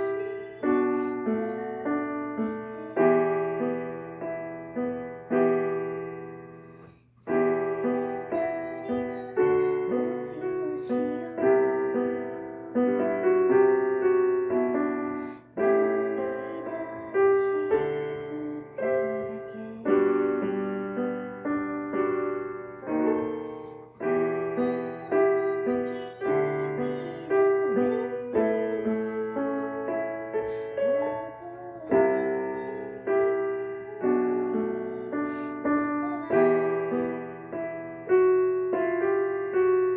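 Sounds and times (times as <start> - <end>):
slow solo piano piece: 0.0 - 39.9.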